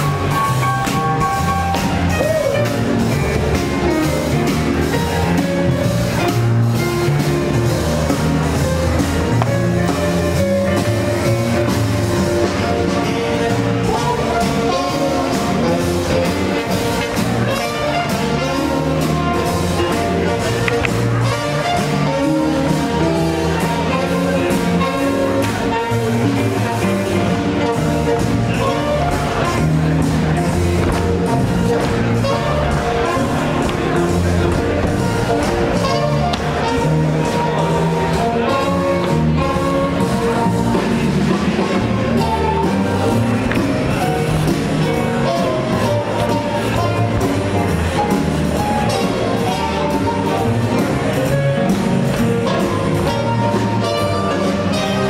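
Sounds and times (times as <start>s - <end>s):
swing jazz with brass: 0.0s - 55.0s.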